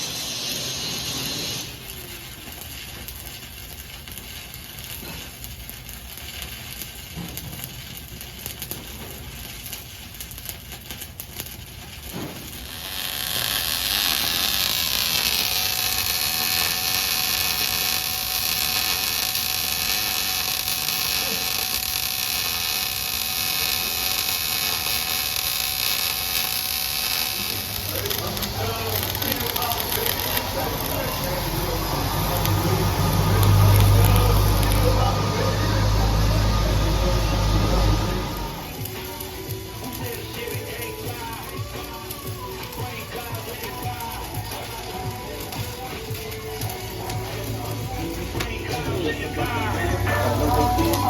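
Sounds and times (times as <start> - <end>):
electric arc welding buzz: 0.0 - 51.0.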